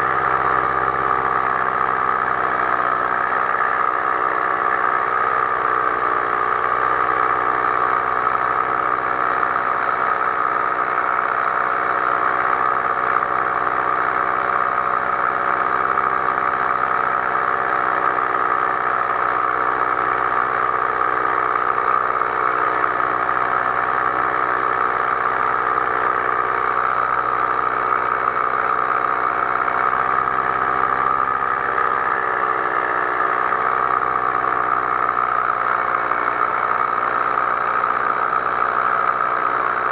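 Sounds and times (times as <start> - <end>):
paraglider engine and propeller drone: 0.0 - 39.9.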